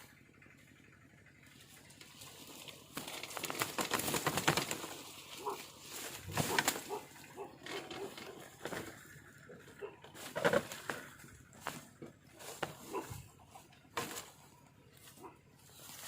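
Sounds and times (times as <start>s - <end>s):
loud rustling and scuffling: 1.7s - 16.0s
dove cooing: 2.4s - 16.0s.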